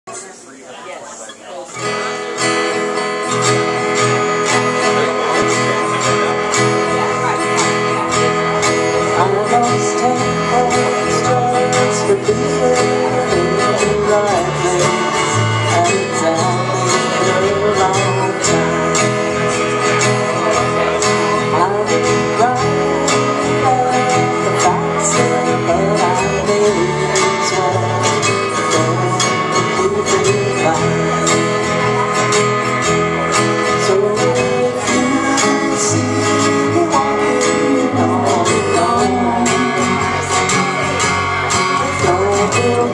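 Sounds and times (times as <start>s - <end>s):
acoustic guitar strumming: 1.4s - 42.9s.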